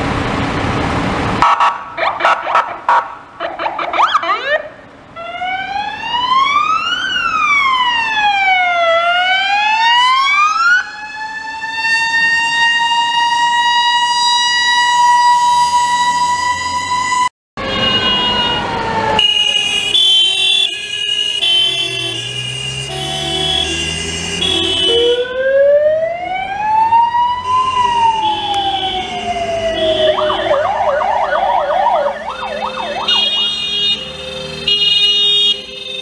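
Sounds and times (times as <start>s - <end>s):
two-tone hi-lo siren: 1.4s - 36.0s
wailing police siren: 1.4s - 36.0s.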